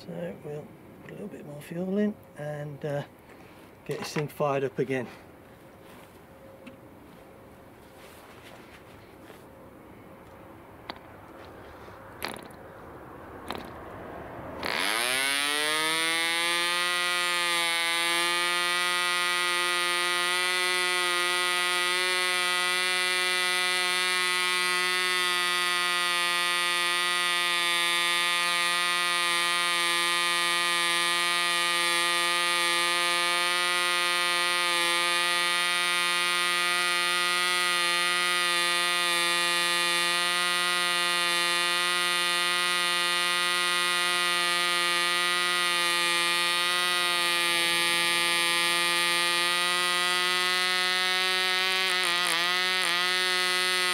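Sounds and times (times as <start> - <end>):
model engine high even buzz: 9.2 - 53.9.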